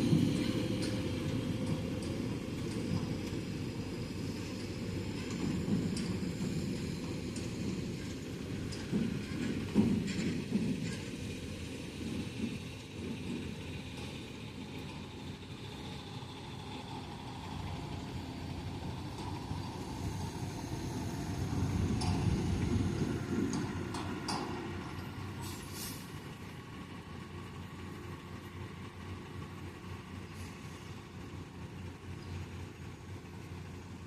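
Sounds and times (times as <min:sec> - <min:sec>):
rattles and clanks: 0:00.0 - 0:30.8
heavy vehicle engine rumbling: 0:00.0 - 0:34.0.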